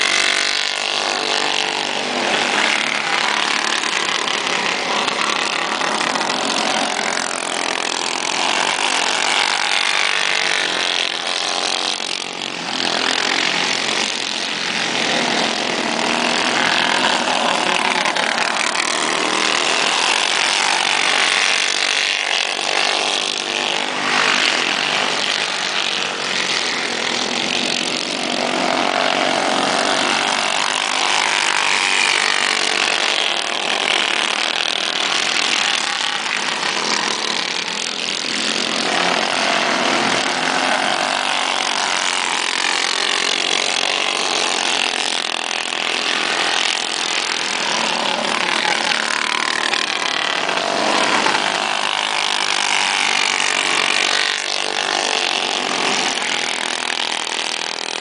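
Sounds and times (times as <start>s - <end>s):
go-kart engines buzzing: 0.0s - 58.0s.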